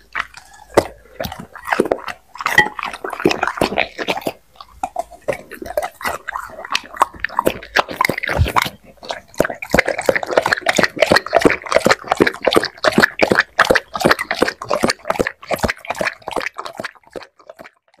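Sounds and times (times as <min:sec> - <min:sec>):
dog lapping food: 0:00.0 - 0:18.0.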